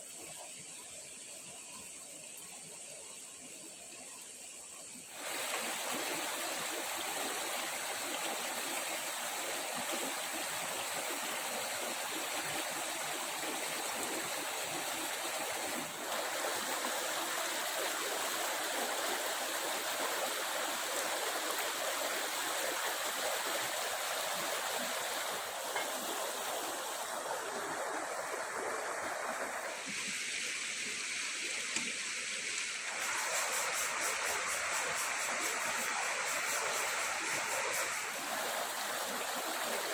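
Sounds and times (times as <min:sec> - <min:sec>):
stream water rushing and gurgling: 0:00.0 - 0:39.9.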